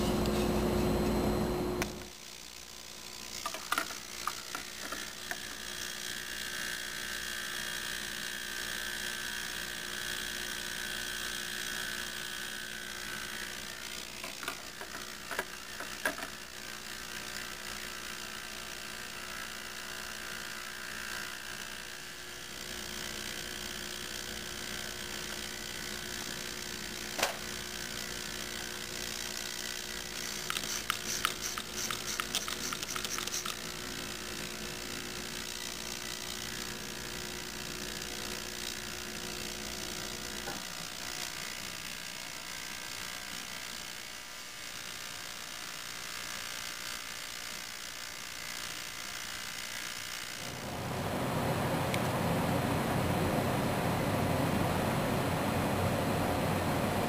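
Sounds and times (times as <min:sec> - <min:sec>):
ultrasonic cleaner buzzing: 0:00.0 - 0:57.0.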